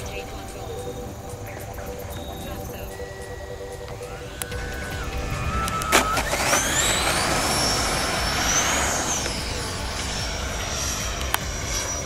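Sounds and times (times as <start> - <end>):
electric ducted fan whine: 0.0 - 12.0.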